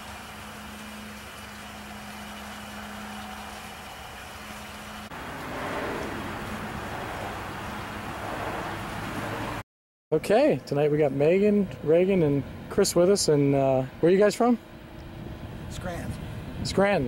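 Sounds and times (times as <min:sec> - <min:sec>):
vehicle engine hum: 0:00.0 - 0:09.6, 0:10.6 - 0:16.7.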